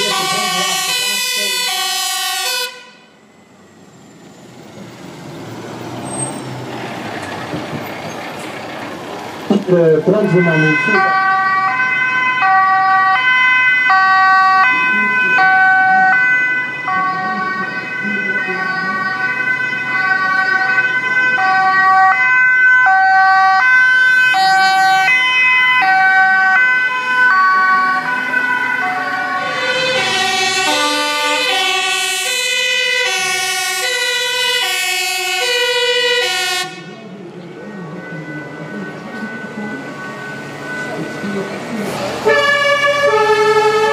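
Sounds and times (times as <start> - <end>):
ambulance two-tone siren: 0.0 - 6.4, 9.5 - 43.9
fire engine engine noise: 0.0 - 43.9
fire engine two-tone siren: 0.0 - 43.9.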